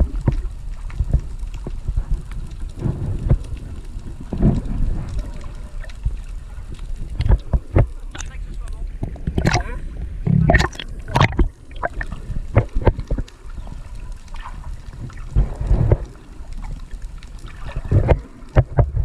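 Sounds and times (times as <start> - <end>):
water sloshing and gurgling: 0.0 - 19.0
water splashing: 0.0 - 19.0.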